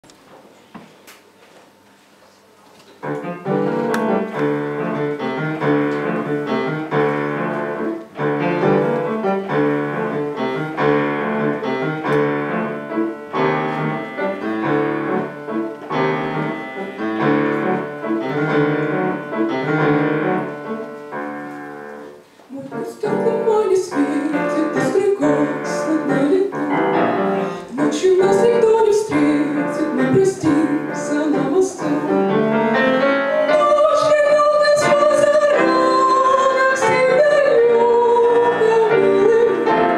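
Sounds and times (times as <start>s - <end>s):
grand piano chords: 3.0s - 39.9s.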